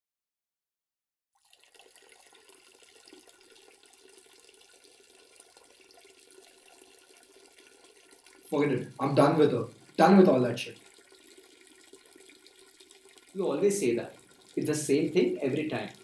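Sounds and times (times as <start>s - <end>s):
faint running water: 1.4s - 16.0s.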